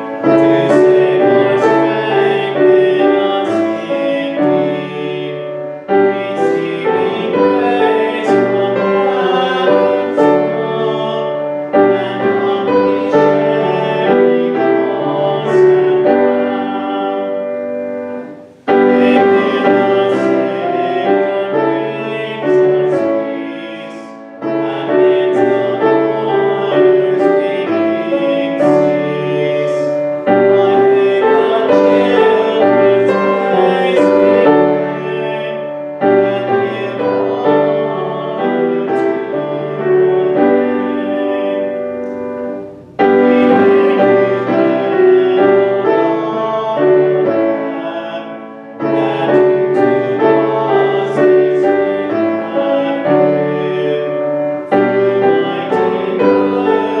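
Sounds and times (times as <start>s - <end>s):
hymn singing: 0.0s - 57.0s
piano accompaniment: 0.0s - 57.0s.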